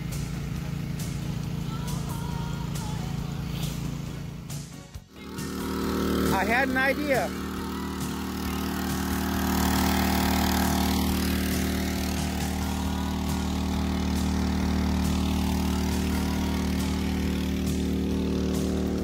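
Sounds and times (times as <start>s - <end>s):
water pump engine running: 0.0s - 19.0s.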